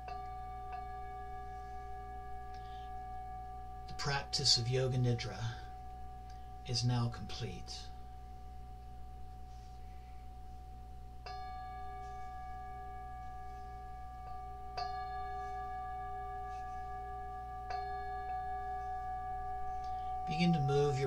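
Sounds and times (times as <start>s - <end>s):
singing bowl ringing: 0.0s - 21.0s.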